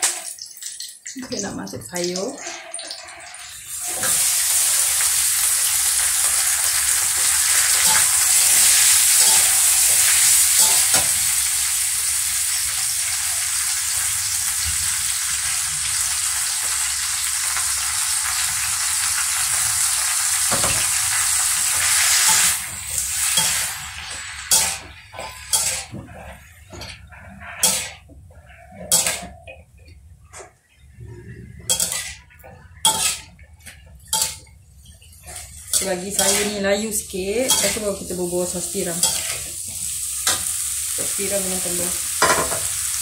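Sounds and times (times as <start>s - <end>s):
greens sizzling in hot oil: 0.0s - 26.8s, 31.7s - 33.4s, 35.0s - 43.0s.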